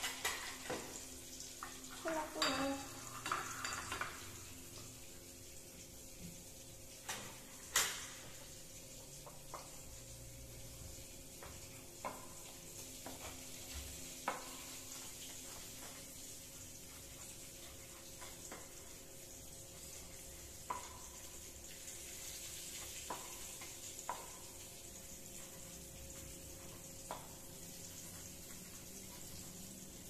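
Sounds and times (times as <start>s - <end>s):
oil sizzling in a wok: 0.0s - 30.0s.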